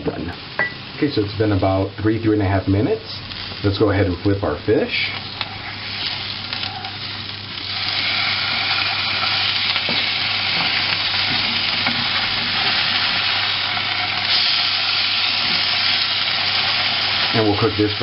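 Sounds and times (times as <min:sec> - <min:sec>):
fish sizzling in a frying pan: 0:00.4 - 0:18.0.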